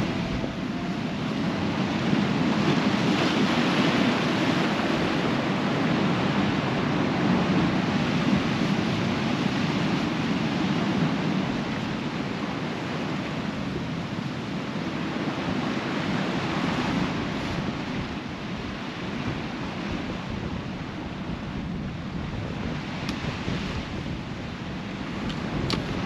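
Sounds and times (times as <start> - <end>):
sea surf breaking on rocks: 0.0 - 26.0
wind on microphone: 0.0 - 26.0.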